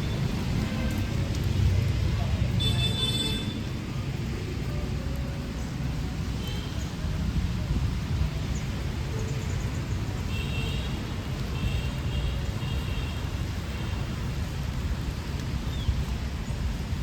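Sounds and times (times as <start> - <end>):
light rain: 0.0 - 17.0
traffic rumble: 0.0 - 17.0.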